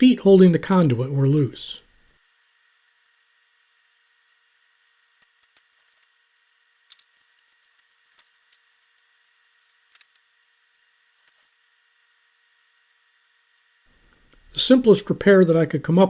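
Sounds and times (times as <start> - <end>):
faint steady hiss: 0.0 - 16.0
low electrical hum: 0.0 - 16.0.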